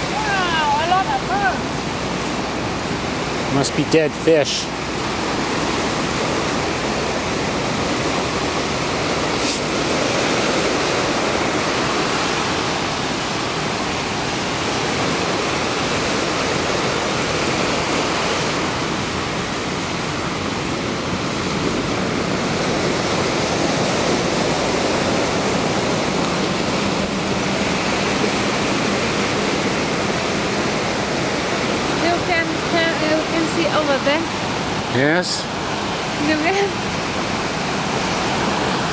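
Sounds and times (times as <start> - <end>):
ocean surf on a sand beach: 0.0 - 38.9.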